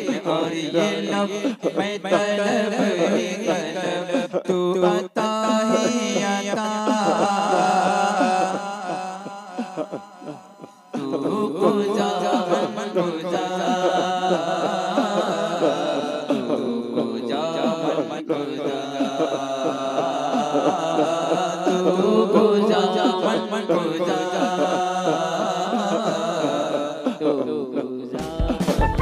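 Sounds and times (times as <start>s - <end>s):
man singing through microphone: 0.0s - 28.8s
chanting underneath: 0.0s - 28.9s.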